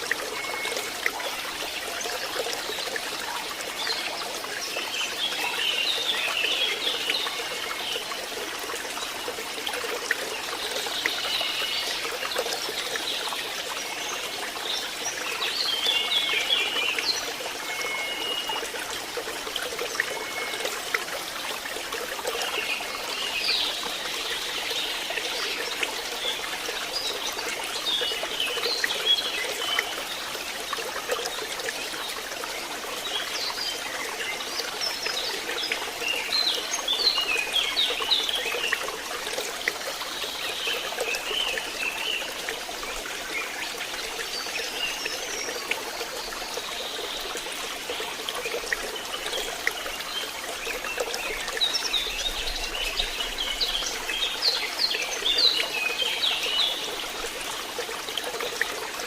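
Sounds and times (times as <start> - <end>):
water trickling and babbling: 0.0 - 59.0.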